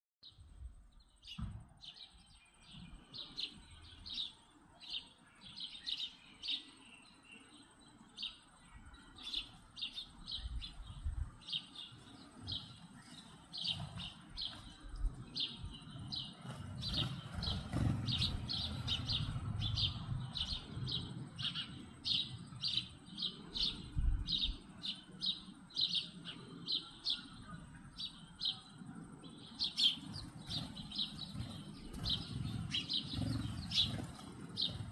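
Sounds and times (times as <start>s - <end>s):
bird chirping: 0.2s - 34.9s.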